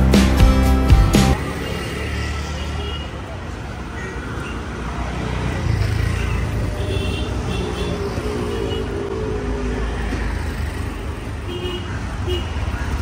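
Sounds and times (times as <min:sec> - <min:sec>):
traffic rumble: 0:01.3 - 0:13.0.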